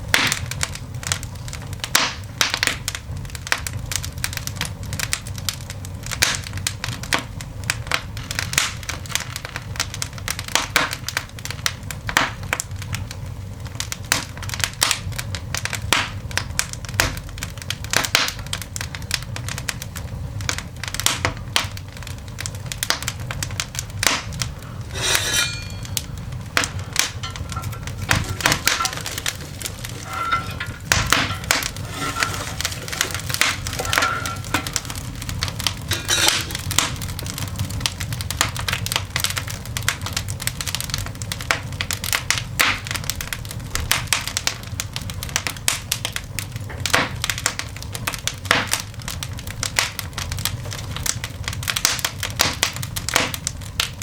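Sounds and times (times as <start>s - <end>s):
coal fire crackling: 0.0s - 54.0s.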